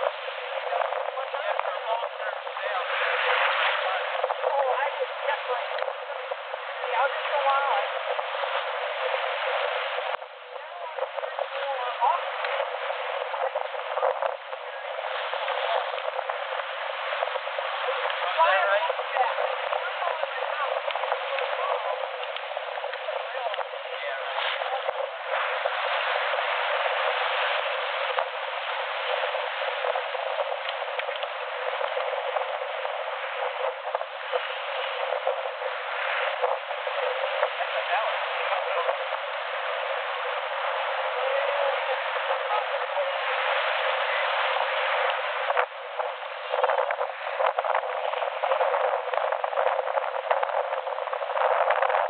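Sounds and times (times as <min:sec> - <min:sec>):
water rushing along hull: 0:00.0 - 0:52.0
wind across microphone: 0:00.0 - 0:52.0.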